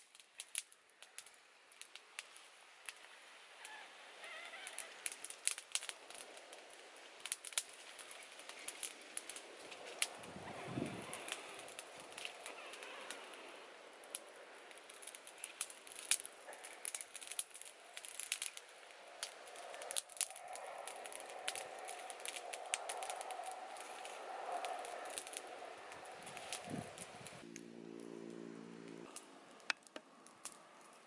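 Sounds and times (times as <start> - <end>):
sticks moved in fire: 0.0 - 28.2
wood fire crackling: 0.0 - 31.0.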